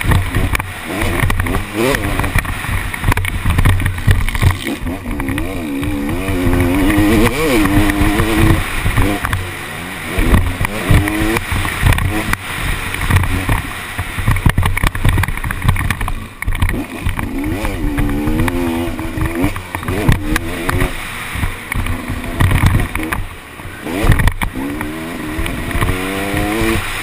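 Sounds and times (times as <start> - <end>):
bike jolting over bumps: 0.0 - 27.0
motocross engine revving: 0.0 - 27.0.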